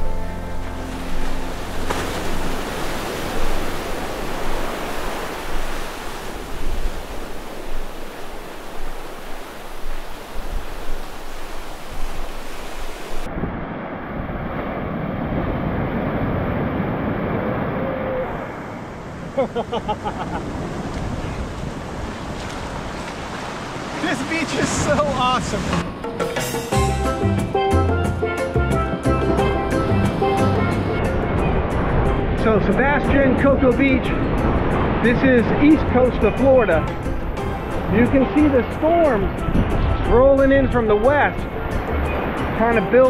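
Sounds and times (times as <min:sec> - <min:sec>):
ocean surf breaking: 0:00.5 - 0:26.8, 0:29.3 - 0:43.0
wind on microphone: 0:01.0 - 0:26.0, 0:29.1 - 0:42.6.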